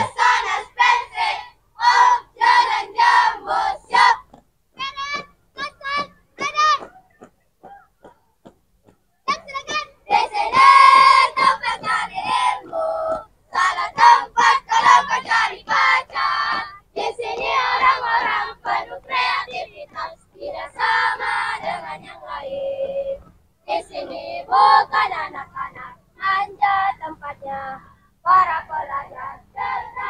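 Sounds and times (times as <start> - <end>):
girls singing in unison: 0.0 - 6.9, 9.3 - 30.0.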